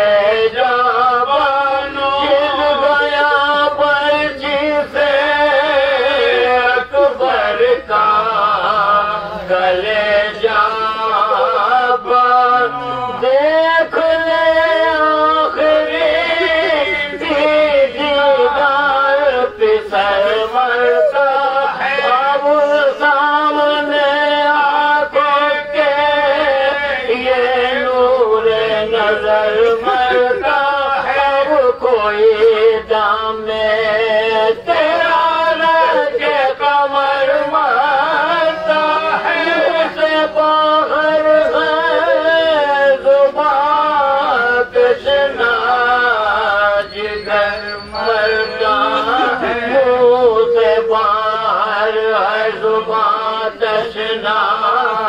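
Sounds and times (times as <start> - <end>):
men chanting melodic elegy: 0.0 - 55.0.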